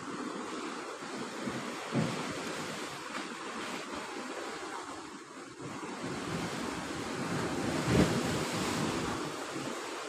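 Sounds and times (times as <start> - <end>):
surf washing over rocky shore: 0.0 - 10.0.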